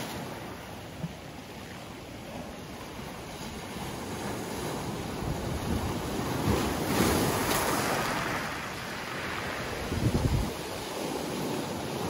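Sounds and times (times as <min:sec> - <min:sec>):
waves breaking around boulders: 0:00.0 - 0:12.0
waves washing over pebbles: 0:00.0 - 0:12.0.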